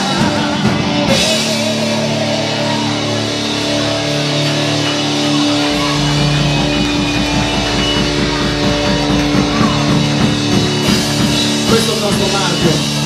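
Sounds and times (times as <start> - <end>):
fast drum beat: 0.0 - 4.0, 4.9 - 13.0
live rock band playing: 0.0 - 13.0.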